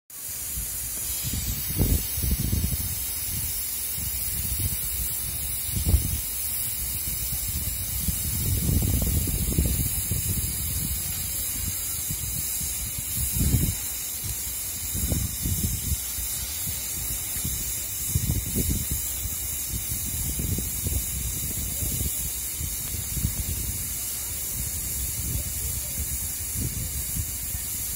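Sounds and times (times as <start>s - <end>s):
snow gun hissing: 0.1s - 27.9s.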